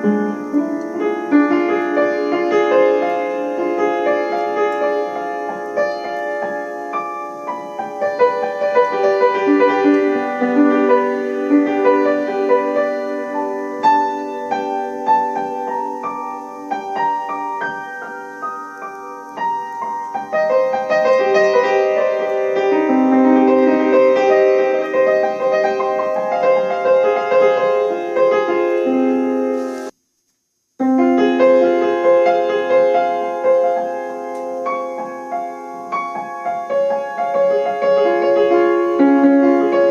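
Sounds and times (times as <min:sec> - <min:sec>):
piano music: 0:00.0 - 0:30.0, 0:30.8 - 0:39.9.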